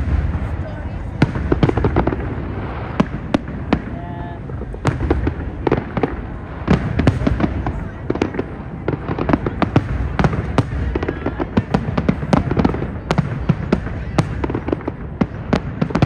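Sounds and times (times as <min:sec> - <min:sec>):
distant explosions rumbling: 0:00.0 - 0:16.0
firework bangs and crackles: 0:00.0 - 0:16.0.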